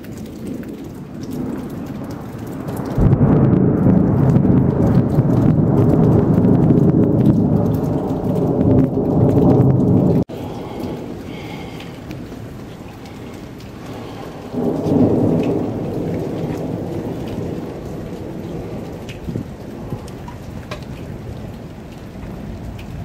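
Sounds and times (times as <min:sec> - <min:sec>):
steady rain: 0:00.0 - 0:23.0
thunder rolling: 0:00.0 - 0:23.0
thunder crack: 0:00.1 - 0:23.0.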